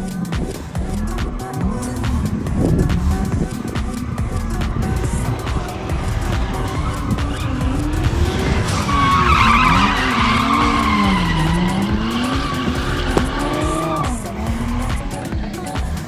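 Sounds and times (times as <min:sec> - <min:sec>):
car engine revving: 0:00.0 - 0:16.0
tyres squealing: 0:00.0 - 0:16.0.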